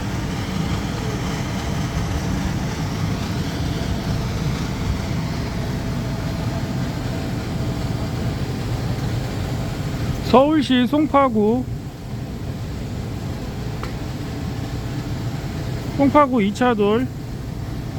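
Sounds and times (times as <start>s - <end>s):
compressor humming and whirring: 0.0s - 17.9s.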